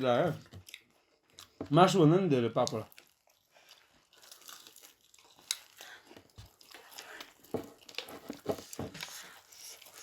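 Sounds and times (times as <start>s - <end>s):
person chewing crunchy food: 0.2s - 1.8s, 2.6s - 10.0s.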